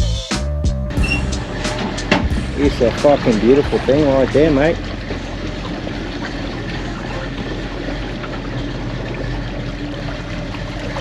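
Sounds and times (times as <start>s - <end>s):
boat engine hum: 0.0s - 11.0s
water rushing: 1.1s - 11.0s.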